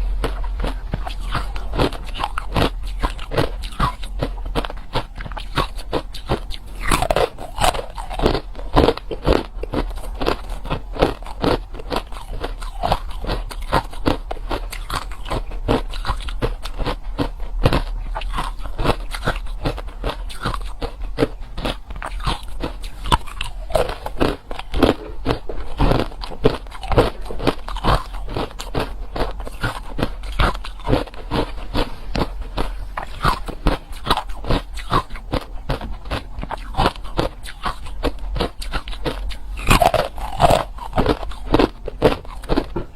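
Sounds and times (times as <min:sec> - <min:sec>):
crunching and chewing ice: 0:00.0 - 0:42.9.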